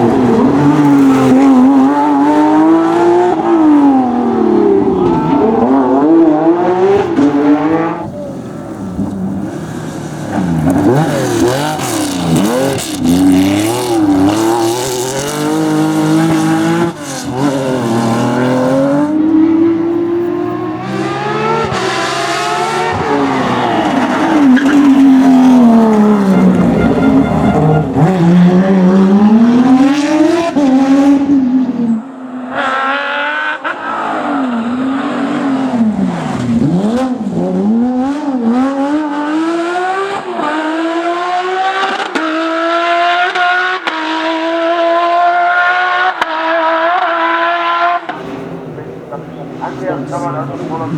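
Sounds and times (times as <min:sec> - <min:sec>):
race car engines revving: 0:00.0 - 0:50.9.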